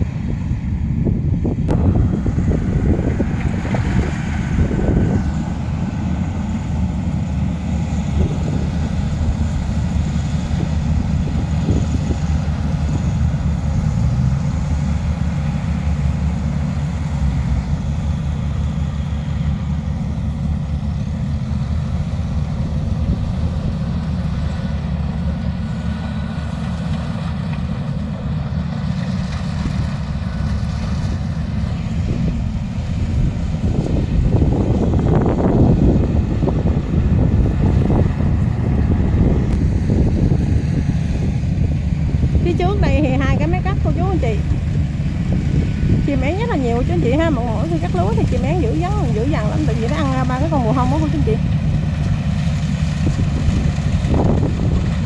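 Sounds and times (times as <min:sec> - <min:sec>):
wind rumbling on microphone: 0:00.0 - 0:26.8, 0:28.7 - 0:55.0
low machinery engine drone: 0:00.0 - 0:55.0.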